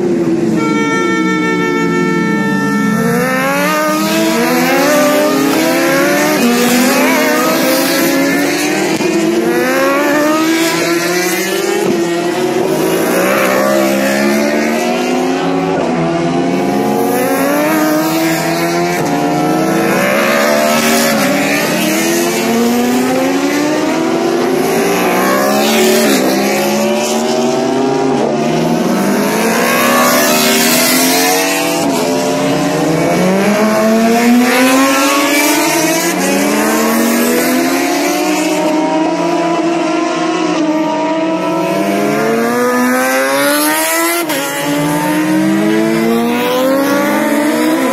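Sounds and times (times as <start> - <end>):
racing motorcycles revving: 0.0 - 47.9.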